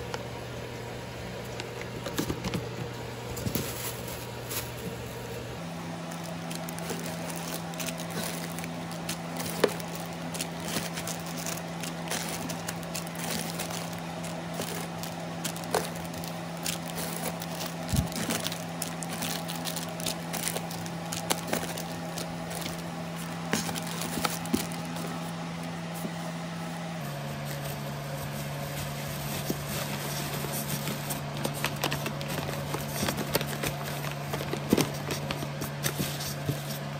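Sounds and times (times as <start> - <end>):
oven ventilation fan hum: 0.0 - 36.9
plastic bags crinkling: 3.3 - 26.0, 27.2 - 36.9.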